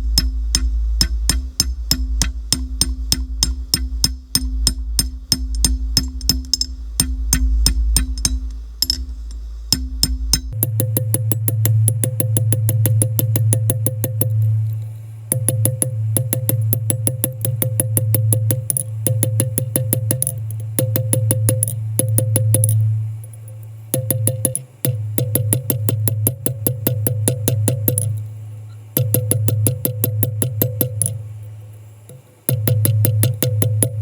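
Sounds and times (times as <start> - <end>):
quick ticking beat: 0.0 - 14.5, 15.3 - 28.2, 28.9 - 31.4, 32.1 - 34.0.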